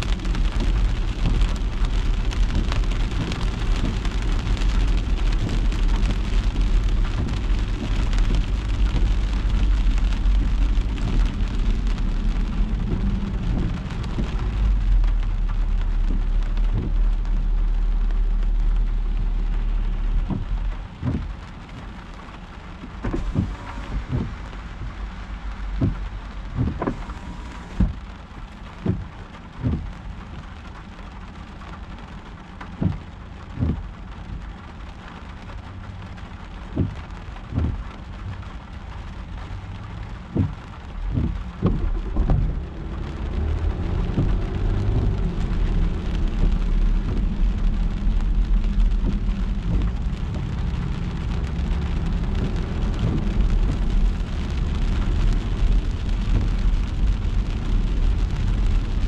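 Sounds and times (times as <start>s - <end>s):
car rumbling on wet road: 0.0s - 59.0s
rain on a car: 0.0s - 59.0s.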